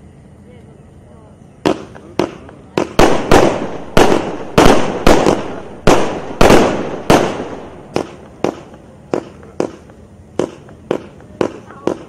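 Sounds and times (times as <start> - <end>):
fireworks cake bangs: 1.6 - 12.0.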